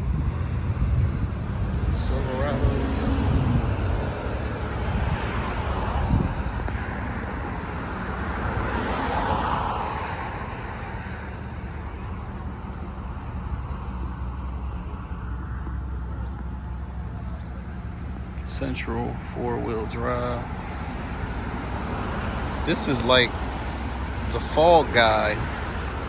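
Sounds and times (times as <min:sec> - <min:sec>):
vehicle passing: 0:00.0 - 0:18.5, 0:20.4 - 0:26.0
road traffic rumble: 0:00.0 - 0:26.0.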